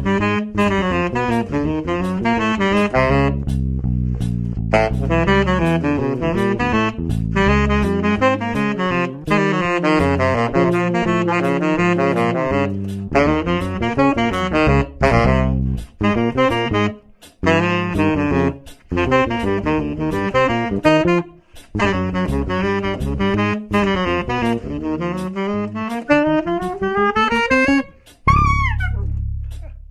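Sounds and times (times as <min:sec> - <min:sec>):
electric bass: 0:00.0 - 0:29.9
tenor saxophone jazz lines: 0:00.0 - 0:29.9.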